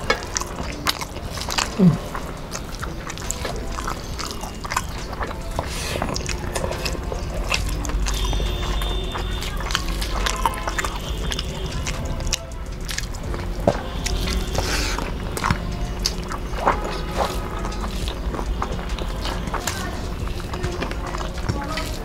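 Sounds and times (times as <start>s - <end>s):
fingers mixing rice clicks: 0.0s - 22.0s
wet chewing and lip smacks: 0.0s - 22.0s.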